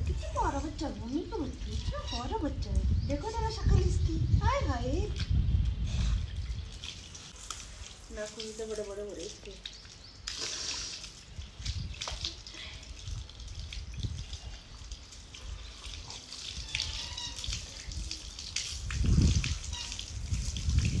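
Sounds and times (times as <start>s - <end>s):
water splashing and dripping: 0.0s - 21.0s.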